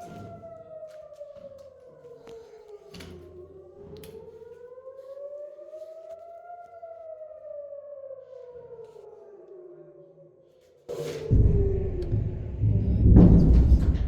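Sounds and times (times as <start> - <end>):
civil defense siren wailing: 0.0 - 14.0.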